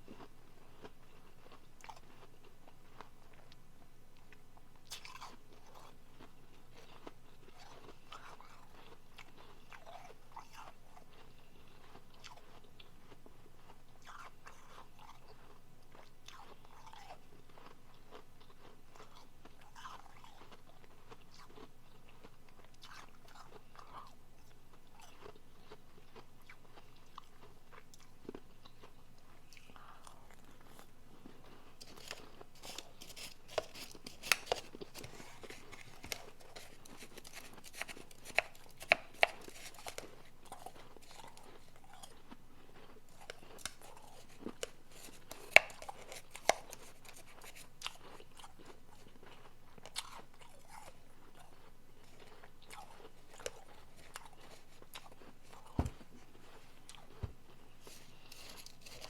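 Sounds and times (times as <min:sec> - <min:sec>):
person chewing crunchy ice: 0:00.1 - 0:02.3, 0:04.8 - 0:59.0.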